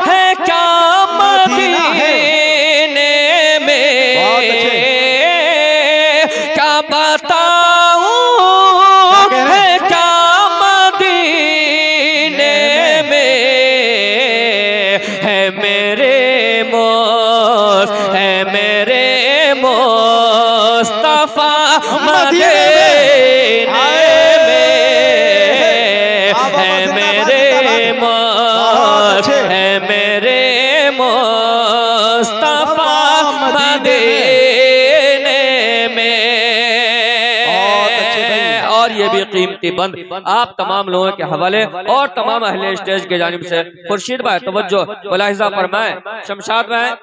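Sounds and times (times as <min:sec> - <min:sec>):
man singing into microphone: 0:00.0 - 0:43.5.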